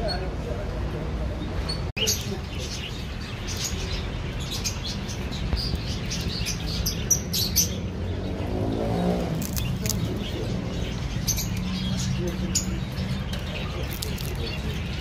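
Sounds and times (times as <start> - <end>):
birds chirping: 0.0 - 15.0
street background rumble: 0.0 - 15.0.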